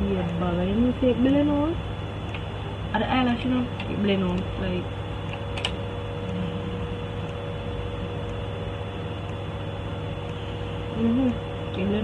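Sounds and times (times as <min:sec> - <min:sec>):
background hum and hiss: 0:00.0 - 0:12.0
faint constant tone: 0:00.0 - 0:12.0.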